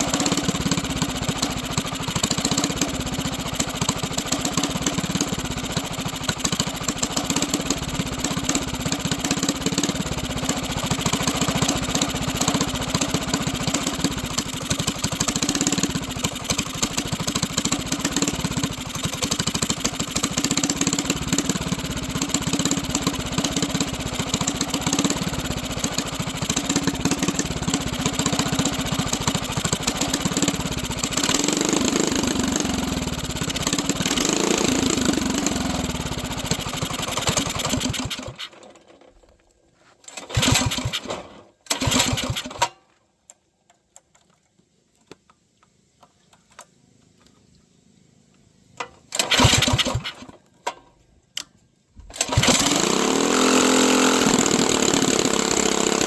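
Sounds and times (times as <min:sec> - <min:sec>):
small engine running: 0:00.0 - 0:38.8, 0:40.2 - 0:42.7, 0:49.2 - 0:50.4, 0:52.2 - 0:56.0
engine restart bursts: 0:00.0 - 0:39.0, 0:40.1 - 0:42.8, 0:49.1 - 0:50.4, 0:52.1 - 0:56.0.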